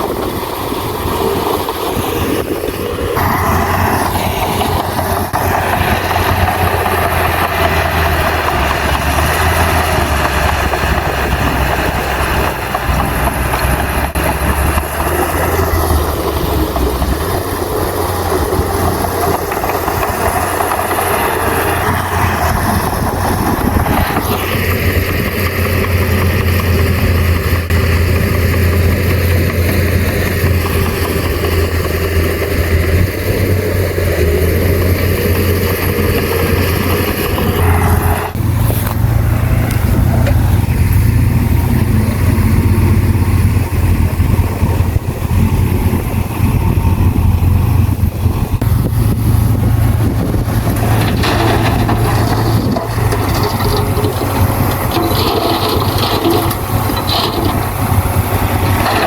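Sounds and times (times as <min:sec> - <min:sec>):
diesel engine humming under load: 0:00.0 - 0:59.0.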